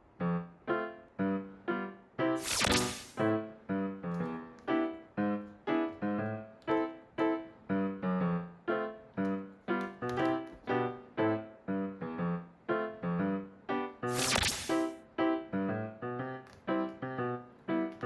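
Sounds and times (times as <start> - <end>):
gentle piano melody: 0.0 - 2.4, 3.2 - 14.1, 15.0 - 18.0.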